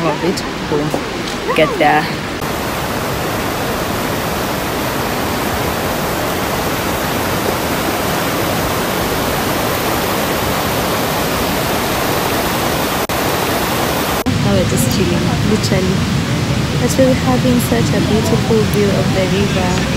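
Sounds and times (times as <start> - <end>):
river rushing over rapids: 0.0 - 19.9.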